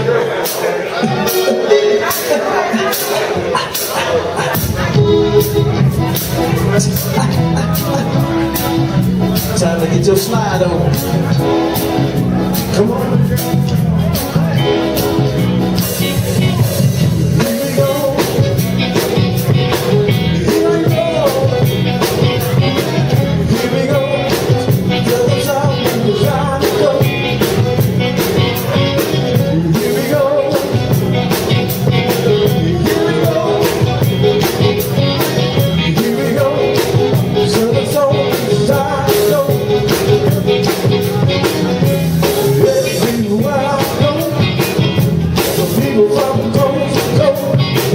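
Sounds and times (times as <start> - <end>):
live band dance groove: 0.0 - 47.9.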